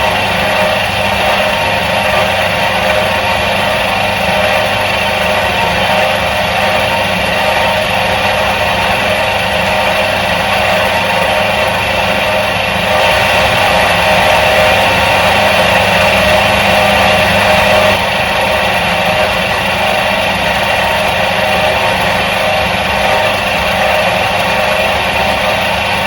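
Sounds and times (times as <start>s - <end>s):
washing machine motor humming: 0.0s - 26.0s.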